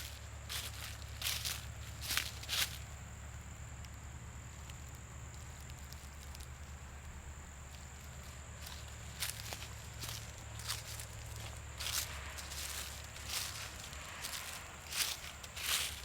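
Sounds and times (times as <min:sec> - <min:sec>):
footsteps on trail: 0:00.0 - 0:02.9, 0:05.4 - 0:16.0.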